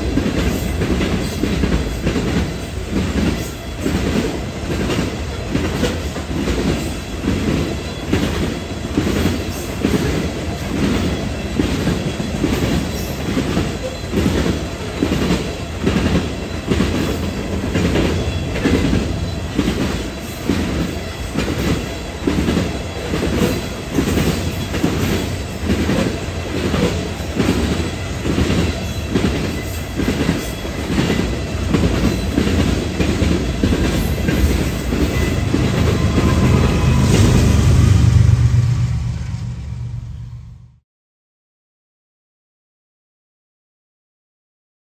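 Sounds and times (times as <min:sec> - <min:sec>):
train wheels clacking over rail joints: 0:00.0 - 0:37.9
low train rumble: 0:00.0 - 0:40.8.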